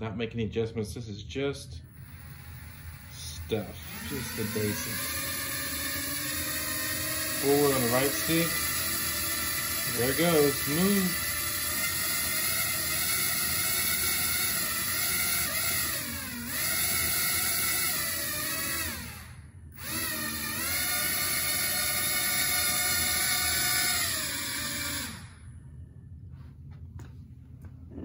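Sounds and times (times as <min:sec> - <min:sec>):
small motors whining: 0:01.9 - 0:25.6.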